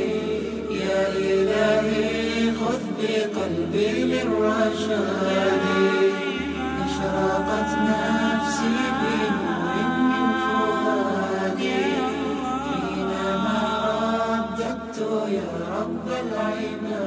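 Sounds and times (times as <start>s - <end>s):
low vocal drone: 0.0s - 17.0s
voices singing a cappella: 0.0s - 17.0s.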